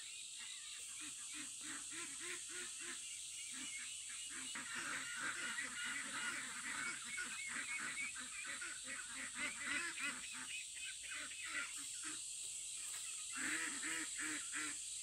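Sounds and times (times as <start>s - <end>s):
chorus of animal calls: 0.0s - 12.3s
steady high hiss: 0.0s - 15.0s.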